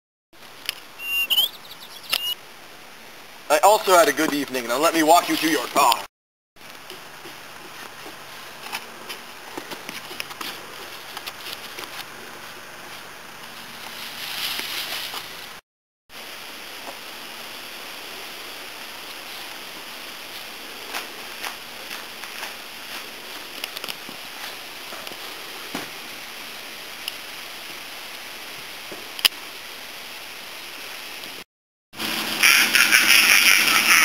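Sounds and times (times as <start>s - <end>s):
outdoor ambient hiss: 0.4s - 31.4s, 32.0s - 34.0s.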